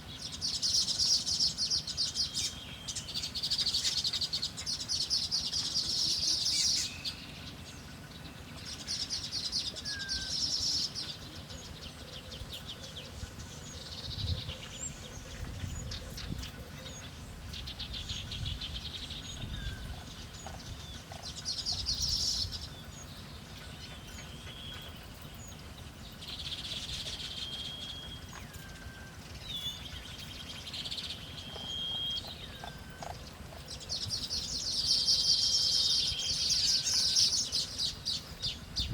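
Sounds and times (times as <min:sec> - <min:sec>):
songbirds chattering: 0:00.0 - 0:38.9.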